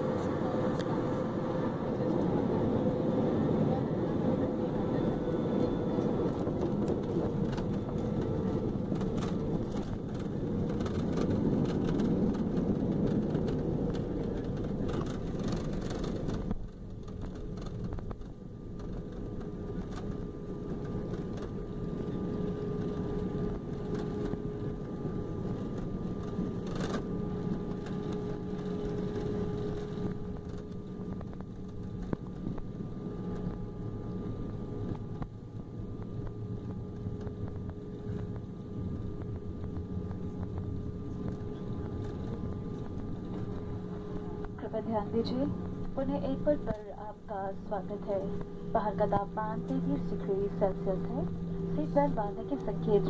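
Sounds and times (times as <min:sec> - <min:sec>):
faint hum: 0:00.0 - 0:53.0
jet engines rumbling: 0:00.0 - 0:53.0.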